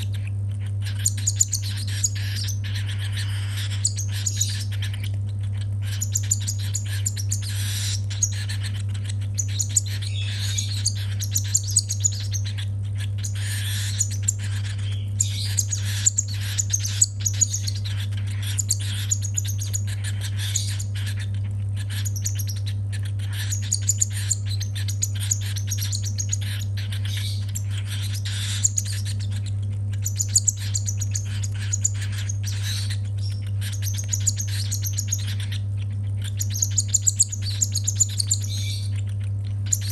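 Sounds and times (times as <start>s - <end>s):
cockatiel chick begging chirps: 0.0s - 39.9s
steady low hum: 0.0s - 39.9s.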